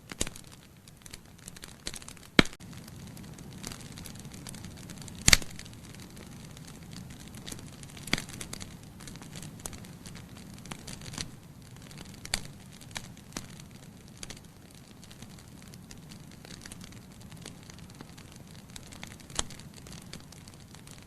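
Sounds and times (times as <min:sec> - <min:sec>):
wood logs burning with crackles: 0:00.0 - 0:21.0.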